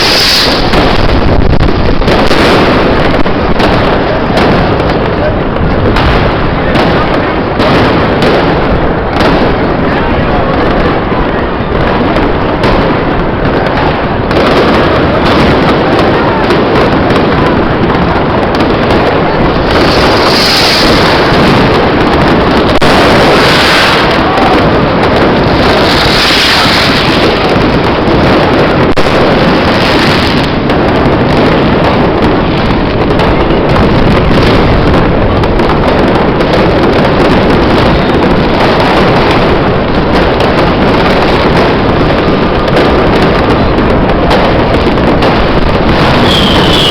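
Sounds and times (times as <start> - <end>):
fireworks bangs and crackles: 0.0 - 46.9
fireworks hissing: 0.0 - 46.9.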